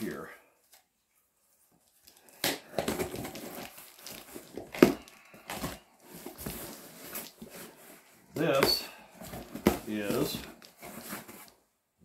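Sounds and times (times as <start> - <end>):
tape and cardboard crinkling: 1.6 - 11.6.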